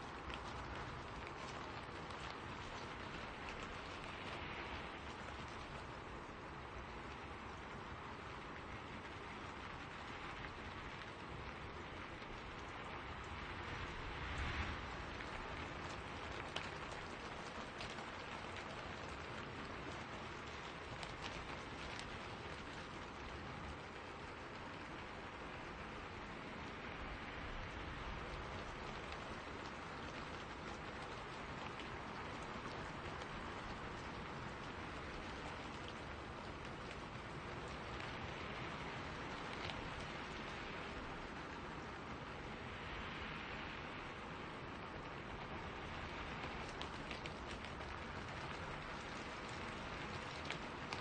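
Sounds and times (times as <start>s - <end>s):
rain falling through trees: 0.0s - 51.0s
raindrop hits: 0.0s - 51.0s.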